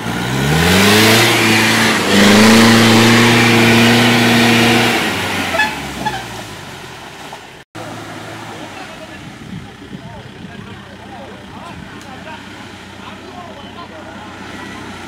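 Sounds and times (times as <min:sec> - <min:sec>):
jeep engine revving: 0:00.0 - 0:07.0, 0:07.8 - 0:15.0.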